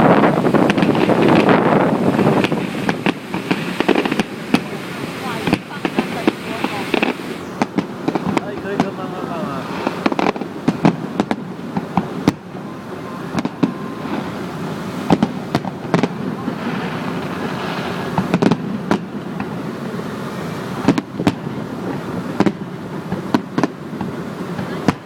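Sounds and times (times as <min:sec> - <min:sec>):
fireworks bangs and crackles: 0:00.0 - 0:25.0
steady background noise: 0:00.0 - 0:25.0.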